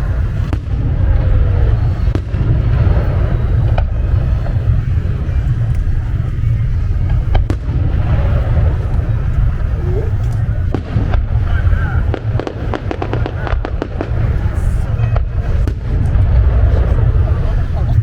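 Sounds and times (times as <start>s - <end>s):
deep rumble of fireworks: 0.0s - 18.0s
sharp firework cracks: 0.0s - 18.0s.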